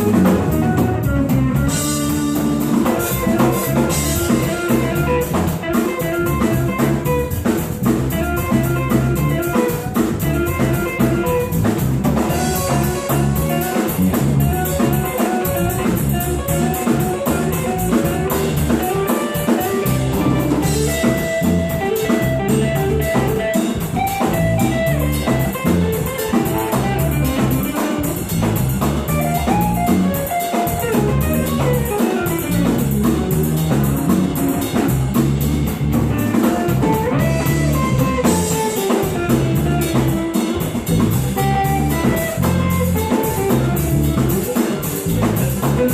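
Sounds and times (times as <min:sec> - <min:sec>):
bass guitar: 0:00.0 - 0:45.9
drum kit beat: 0:00.0 - 0:45.9
electric guitar notes: 0:00.0 - 0:45.9.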